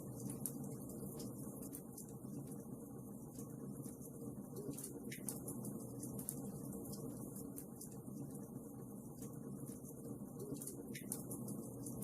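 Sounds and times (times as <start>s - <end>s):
faint fire crackles: 0.0s - 12.0s.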